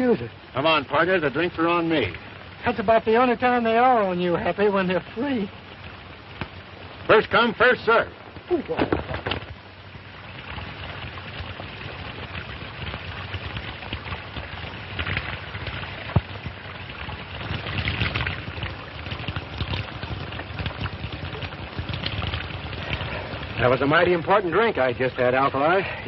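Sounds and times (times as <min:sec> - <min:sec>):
water running: 0:00.0 - 0:26.0.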